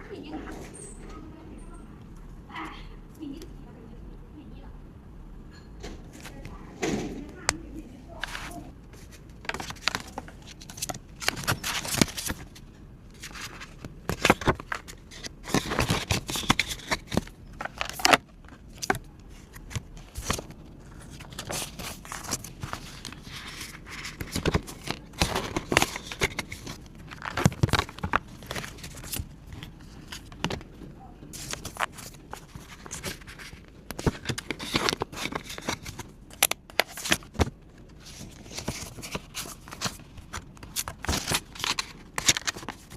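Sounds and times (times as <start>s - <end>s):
paper rustling and crinkling: 8.1s - 42.9s.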